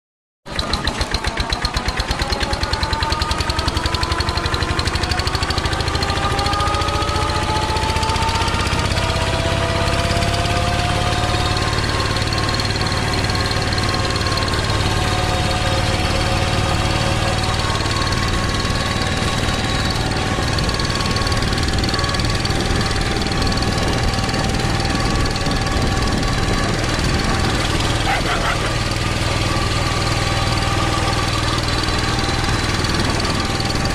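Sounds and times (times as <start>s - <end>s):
tractor engine running: 0.5s - 33.9s
rising whine: 1.0s - 33.9s.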